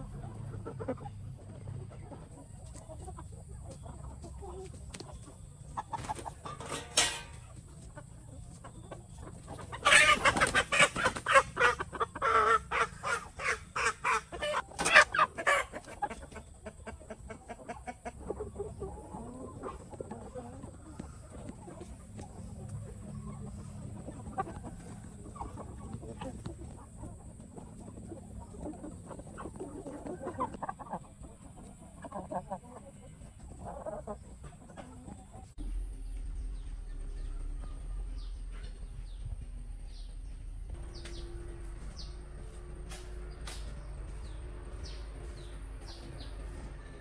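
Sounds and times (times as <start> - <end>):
chickens clucking and squawking: 0.0 - 47.0.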